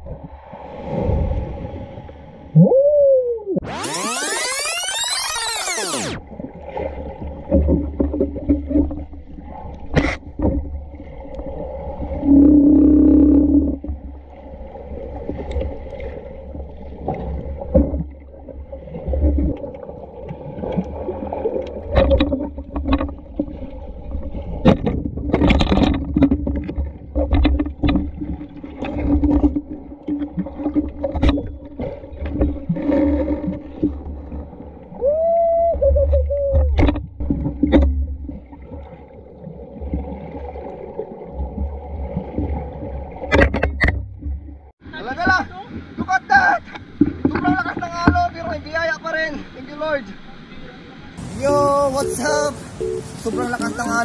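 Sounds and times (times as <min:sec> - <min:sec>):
underwater rumble of moving water: 0:00.0 - 0:03.6, 0:06.2 - 0:54.0.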